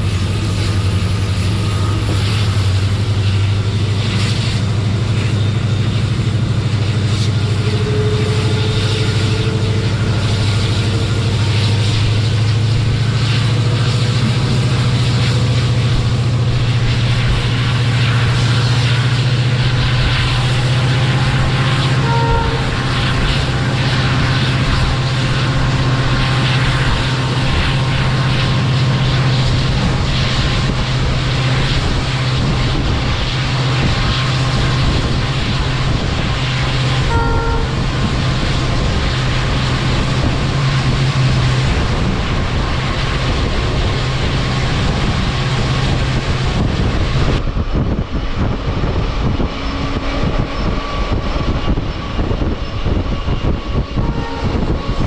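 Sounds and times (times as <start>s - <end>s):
train rumble on track: 0.0s - 55.0s.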